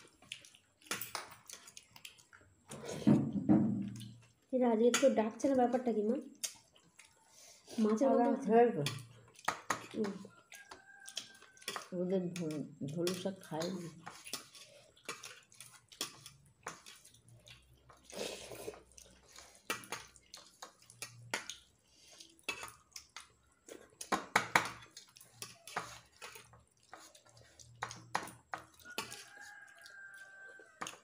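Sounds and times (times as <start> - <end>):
fingers squishing food: 0.0 - 2.8, 6.3 - 31.0.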